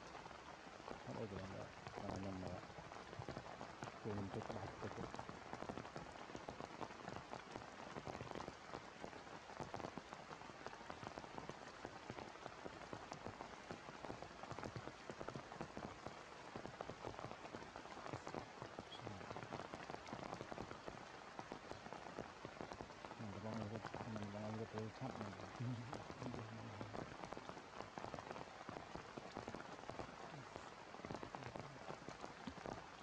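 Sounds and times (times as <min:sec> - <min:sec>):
close raindrop ticks: 0:00.0 - 0:33.0
heavy rain falling: 0:00.0 - 0:33.0.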